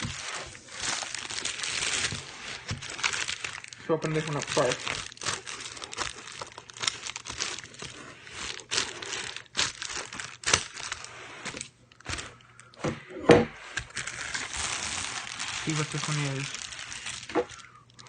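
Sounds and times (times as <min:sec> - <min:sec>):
packaging being torn open: 0:00.0 - 0:12.4, 0:13.9 - 0:18.0
packaging crunch: 0:00.0 - 0:12.8, 0:13.7 - 0:18.0.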